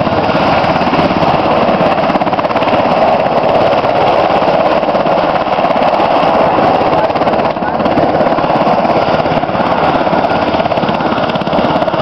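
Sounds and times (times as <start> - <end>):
helicopter rotor chop: 0.0 - 12.0.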